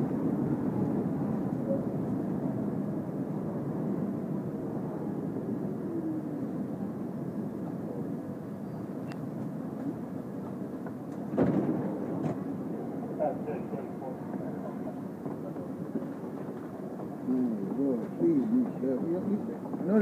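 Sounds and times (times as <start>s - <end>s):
subway train rumbling: 0.0s - 20.0s.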